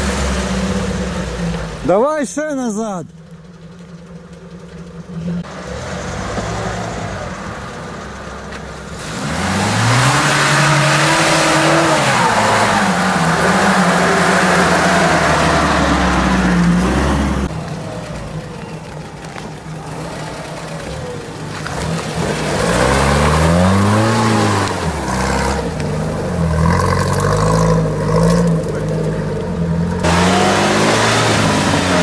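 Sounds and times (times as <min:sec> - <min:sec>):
off-road vehicle engine revving: 0:00.0 - 0:02.2, 0:04.6 - 0:32.0.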